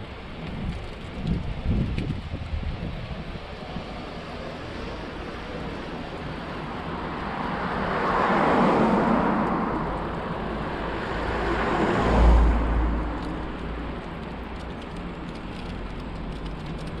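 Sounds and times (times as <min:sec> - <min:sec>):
cars passing: 0:02.4 - 0:17.0.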